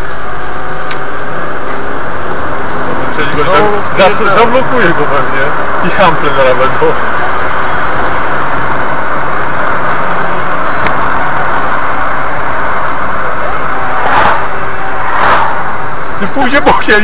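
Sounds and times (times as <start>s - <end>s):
road and engine noise in car: 0.0s - 17.0s.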